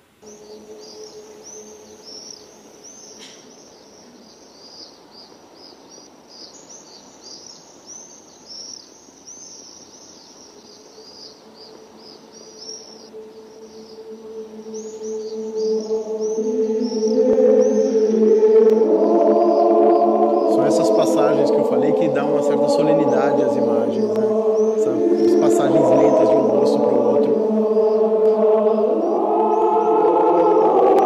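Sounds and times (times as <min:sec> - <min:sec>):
birds chirping: 0:00.0 - 0:31.0
steady hiss: 0:00.0 - 0:31.0.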